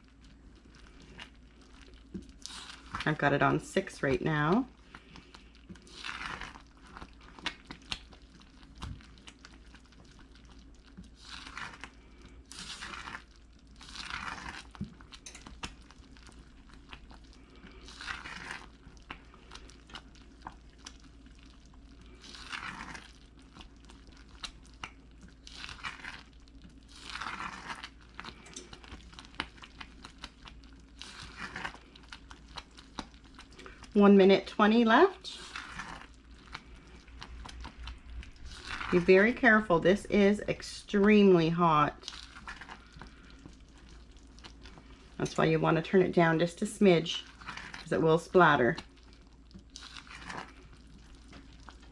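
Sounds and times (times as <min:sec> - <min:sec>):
boiling fudge clicks and pops: 0:00.0 - 0:51.9.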